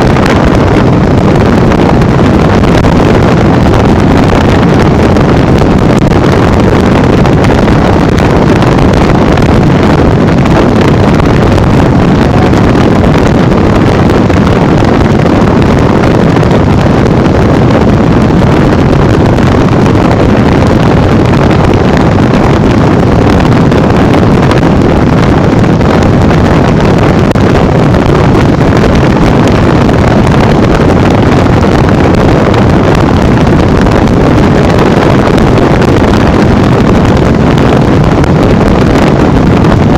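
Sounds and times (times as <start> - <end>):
motorcycle running: 0.0 - 39.9
wind rushing on microphone: 0.0 - 39.9.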